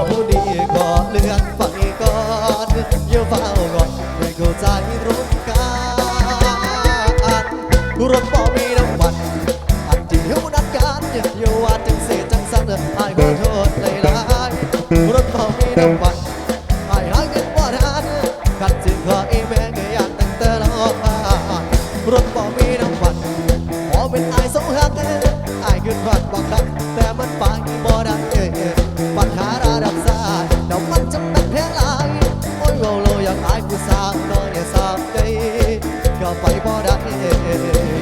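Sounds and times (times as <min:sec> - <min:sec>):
drums driving beat: 0:00.0 - 0:38.0
live band playing pop: 0:00.0 - 0:38.0.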